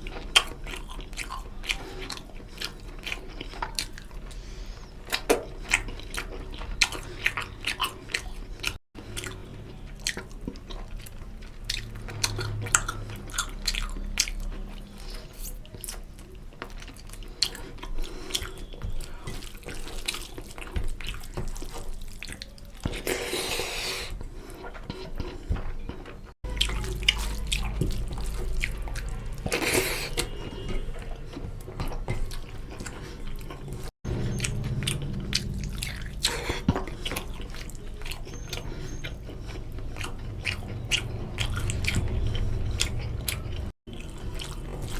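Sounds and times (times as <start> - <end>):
wet chewing and mouth smacking: 0.0 - 44.9.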